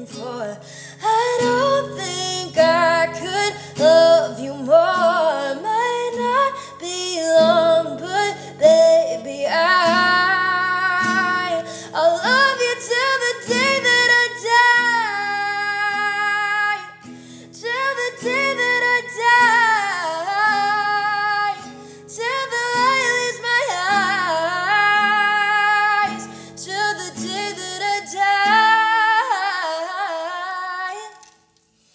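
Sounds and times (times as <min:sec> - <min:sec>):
woman singing: 0:00.0 - 0:31.4.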